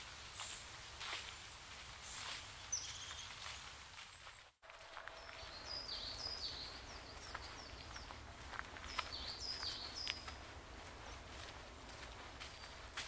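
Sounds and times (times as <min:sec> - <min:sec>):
low background noise: 0:00.0 - 0:13.0
songbird singing: 0:02.0 - 0:13.0.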